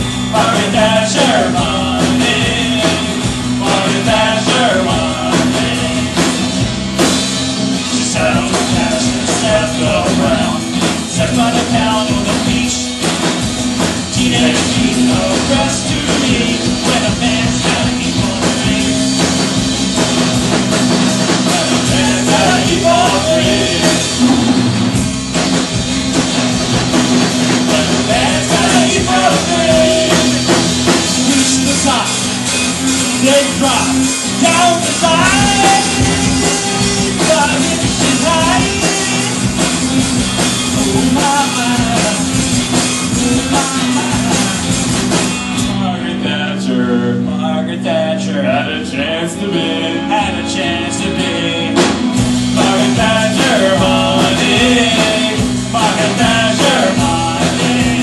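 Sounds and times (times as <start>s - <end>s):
drum kit: 0.0s - 58.0s
live rock band playing: 0.0s - 58.0s
person singing: 0.3s - 6.4s, 7.9s - 13.0s, 14.0s - 19.4s, 21.3s - 24.7s, 27.5s - 30.6s, 33.1s - 39.6s, 40.6s - 58.0s.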